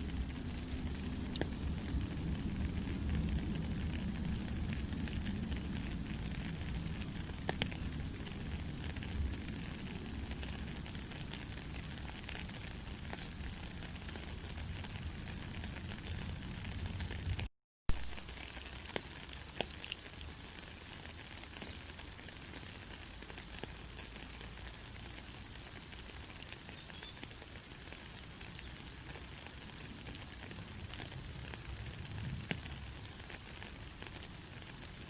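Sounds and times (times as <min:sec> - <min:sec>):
faint crackles and ticks: 0:00.0 - 0:35.0.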